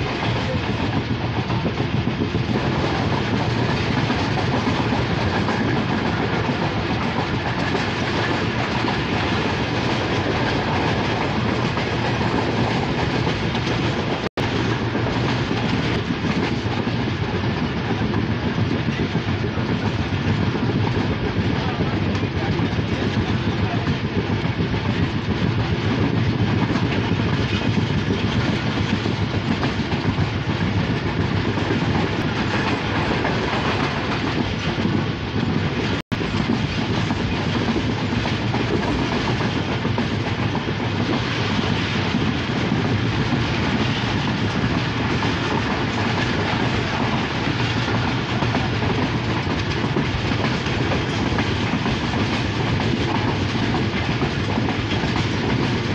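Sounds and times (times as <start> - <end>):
train wheels on track: 0.0 - 55.9.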